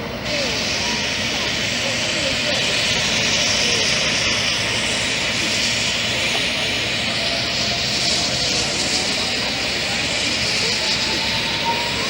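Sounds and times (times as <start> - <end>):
airplane engine drone: 0.0 - 12.0.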